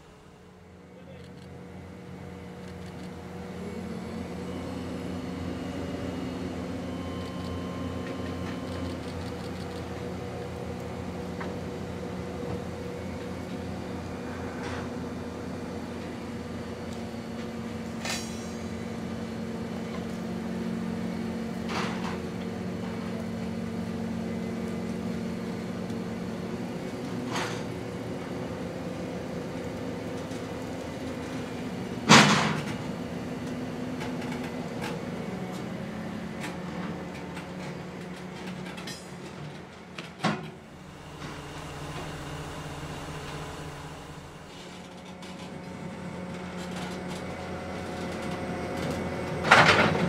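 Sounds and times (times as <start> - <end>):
diesel engine running: 0.0 - 32.5, 34.3 - 50.0.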